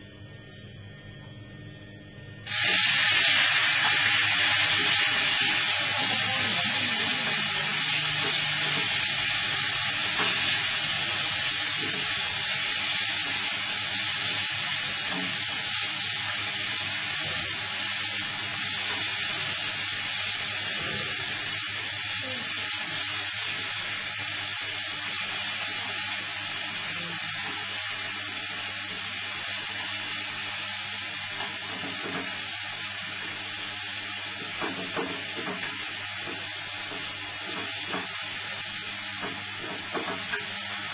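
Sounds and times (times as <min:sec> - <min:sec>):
food sizzling in a frying pan: 0:02.4 - 0:40.9.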